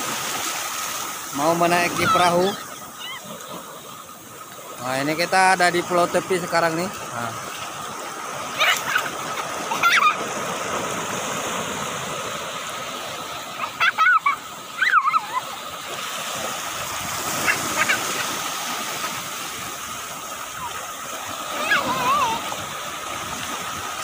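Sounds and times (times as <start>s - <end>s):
waves washing on sandy beach: 0.0s - 24.0s.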